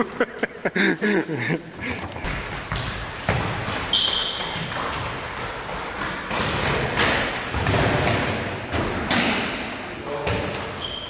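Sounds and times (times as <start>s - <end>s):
shoes squeaking on floor: 1.8s - 11.0s.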